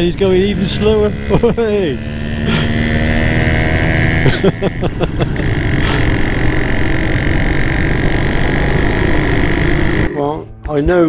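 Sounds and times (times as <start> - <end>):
motorcycle engine drone: 0.0 - 10.8.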